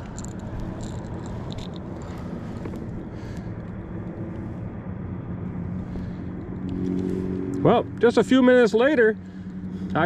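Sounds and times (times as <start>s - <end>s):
distant engine drone: 0.0s - 10.0s.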